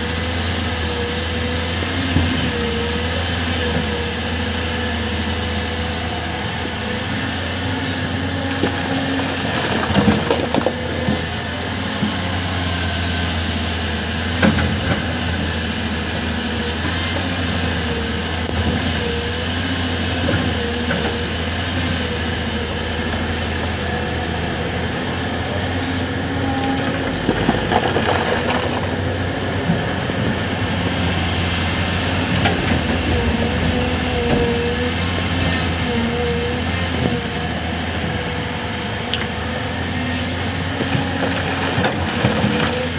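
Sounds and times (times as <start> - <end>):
excavator diesel engine: 0.0 - 42.9.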